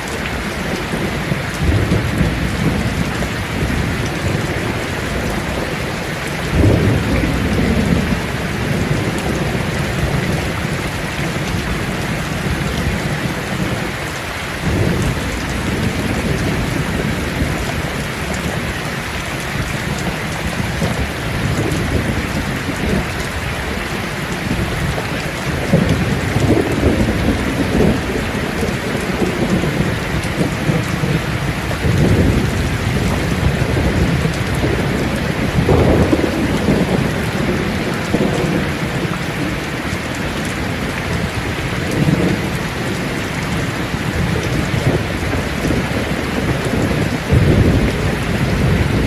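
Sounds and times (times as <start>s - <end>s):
rain pattering on leaves: 0.0s - 49.0s.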